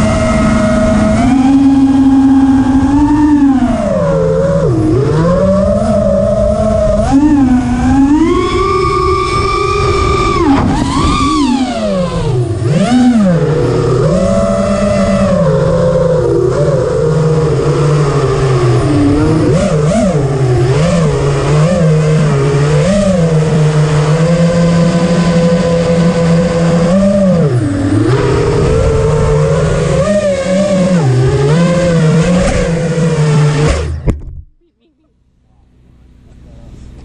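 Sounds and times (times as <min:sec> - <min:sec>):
drone propellers whining: 0:00.0 - 0:34.3.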